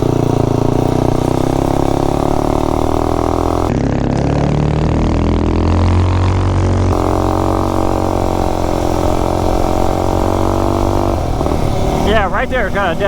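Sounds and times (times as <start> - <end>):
minibike engine running: 0.0 - 5.8, 6.4 - 13.0.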